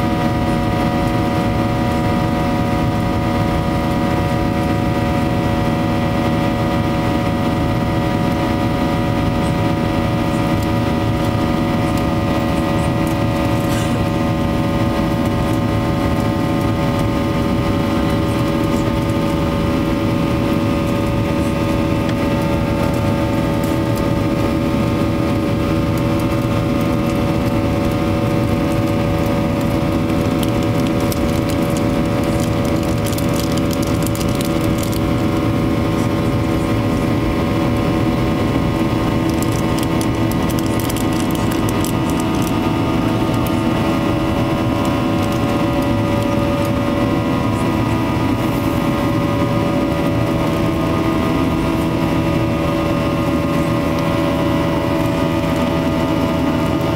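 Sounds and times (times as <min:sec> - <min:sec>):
engine whining tones: 0:00.0 - 0:56.9
jet engine drone in cabin: 0:00.0 - 0:56.9.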